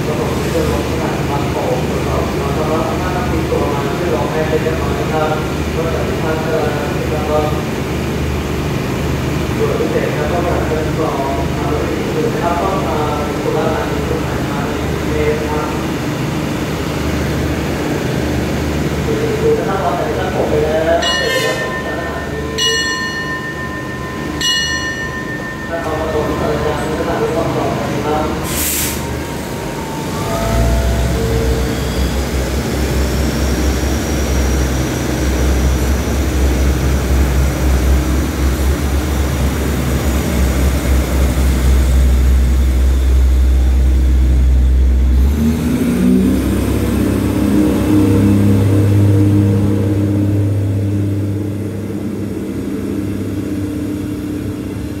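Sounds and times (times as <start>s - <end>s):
train coaches rolling past: 0.0s - 55.0s
train humming with steady tones: 0.0s - 55.0s.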